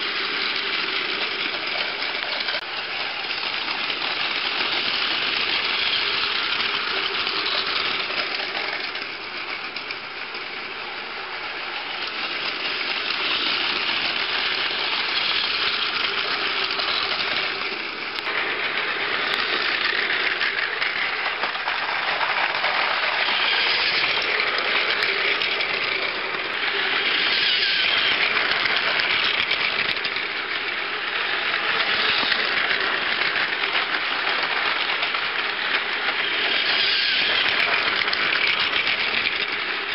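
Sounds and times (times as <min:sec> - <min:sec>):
toy train motors whirring: 0:00.0 - 0:39.9
wheels rattling on plastic rails: 0:00.0 - 0:39.9.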